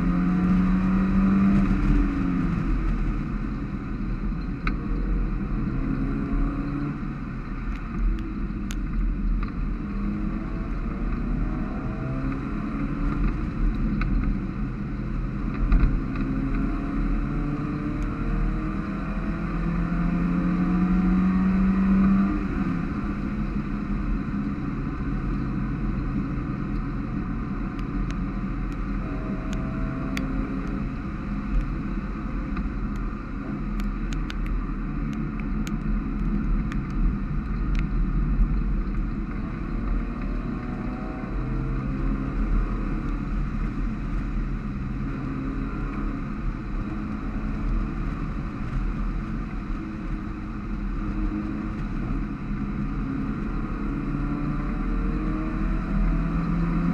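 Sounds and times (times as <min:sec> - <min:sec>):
race car engine: 0:00.0 - 0:56.9.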